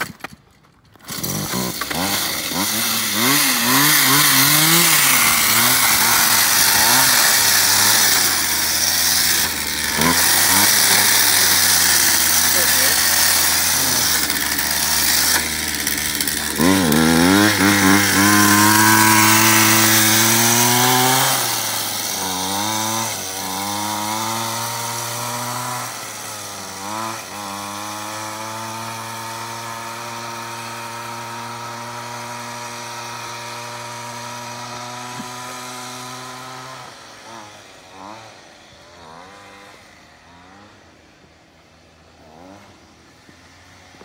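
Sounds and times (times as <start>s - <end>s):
small engine revving: 0.0s - 44.0s.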